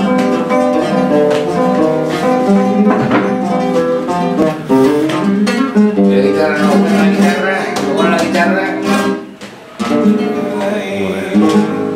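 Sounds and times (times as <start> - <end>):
flamenco guitar playing: 0.0 - 11.9.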